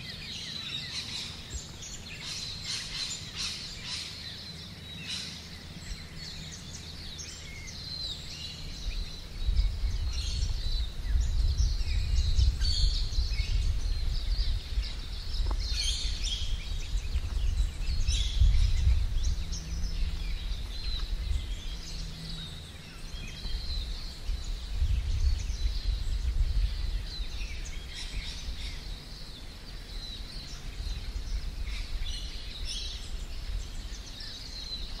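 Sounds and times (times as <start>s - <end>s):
birds chirping: 0.0s - 35.0s
low uneven rumble: 0.0s - 35.0s.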